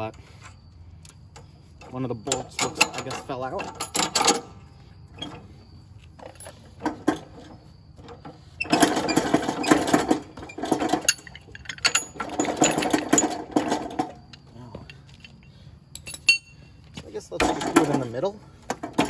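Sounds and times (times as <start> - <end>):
metal hardware clicks: 0.4 - 4.6, 6.2 - 16.6, 17.3 - 19.0.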